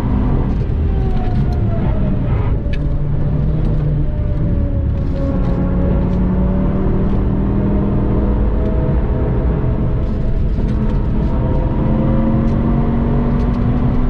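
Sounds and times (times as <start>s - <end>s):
car engine accelerating: 0.0s - 14.0s
low cabin rumble: 0.0s - 14.0s.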